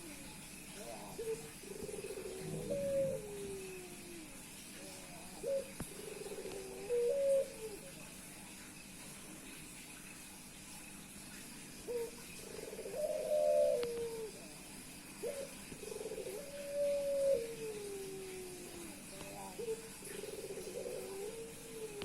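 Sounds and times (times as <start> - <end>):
dove cooing: 0.0 - 8.1, 11.8 - 22.0.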